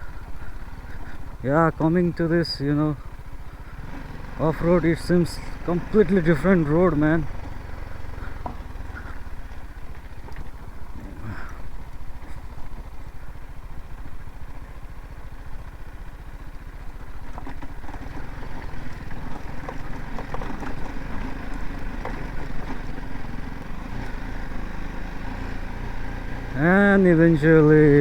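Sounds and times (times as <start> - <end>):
motorcycle engine rumbling: 0.0 - 28.0.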